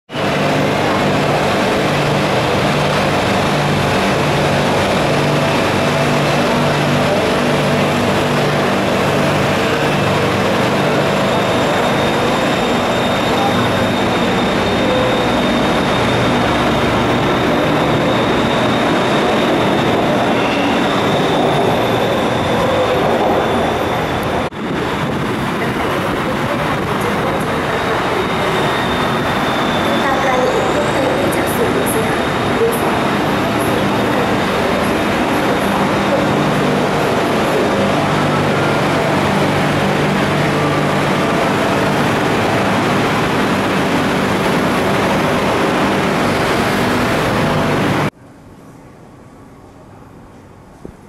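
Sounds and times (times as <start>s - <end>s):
metro train running past: 0.1s - 51.0s
train approaching: 0.1s - 51.0s
train high whine: 0.1s - 51.0s.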